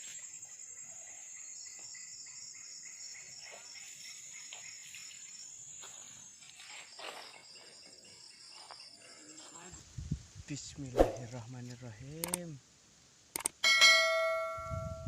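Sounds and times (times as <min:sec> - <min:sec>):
insects trilling: 0:00.0 - 0:12.7.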